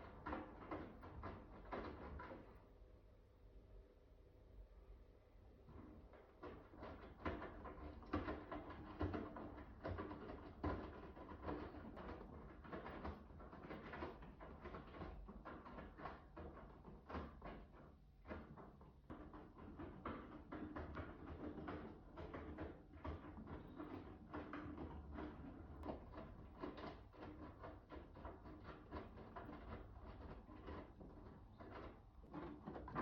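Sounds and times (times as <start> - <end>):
washing machine hum: 0.0 - 3.8, 4.5 - 33.0.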